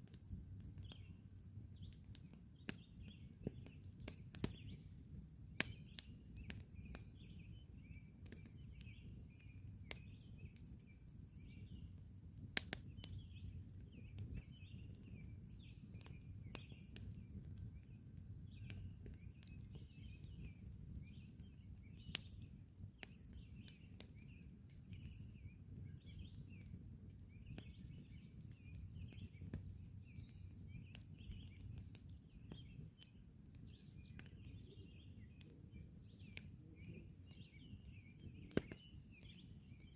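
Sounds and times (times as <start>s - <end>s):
campfire crackling and popping: 0.0s - 39.9s
birds chirping: 0.6s - 5.0s, 5.6s - 39.9s.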